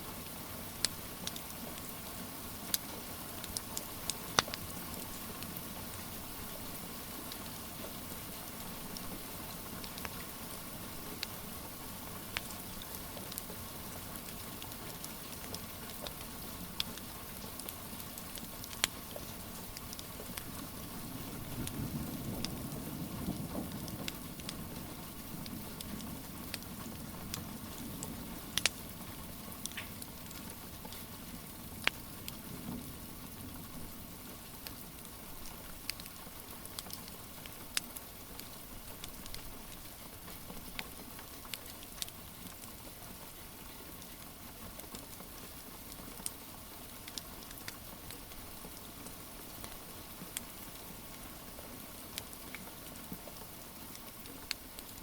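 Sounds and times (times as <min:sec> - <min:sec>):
rain hiss: 0:00.0 - 0:55.0
wood fire crackling: 0:00.7 - 0:21.8, 0:22.4 - 0:55.0.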